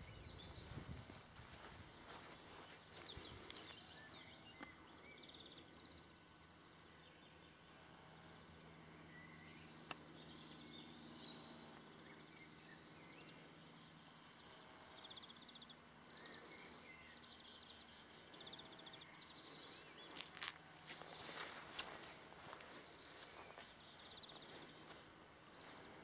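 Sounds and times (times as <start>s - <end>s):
faint bird chirps and trills: 0.0s - 26.0s.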